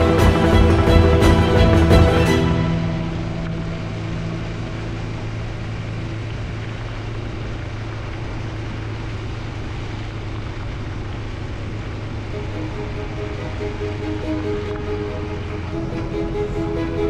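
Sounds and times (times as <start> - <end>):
low engine drone: 0.0 - 17.0
rushing noise: 0.0 - 17.0.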